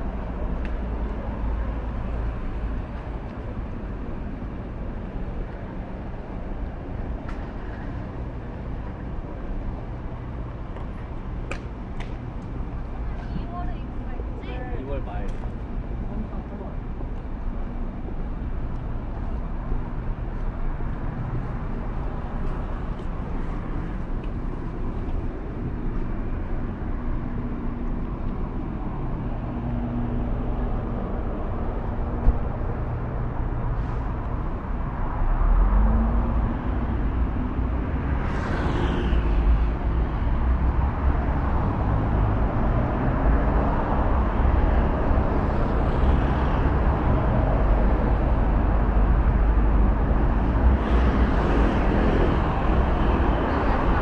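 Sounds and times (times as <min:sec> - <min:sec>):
traffic engines and road noise: 0:00.0 - 0:54.0.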